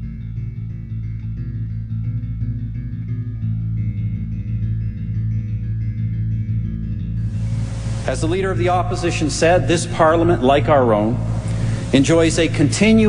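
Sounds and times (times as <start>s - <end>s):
guitar background music: 0.0s - 13.0s
low bass line: 0.0s - 13.0s.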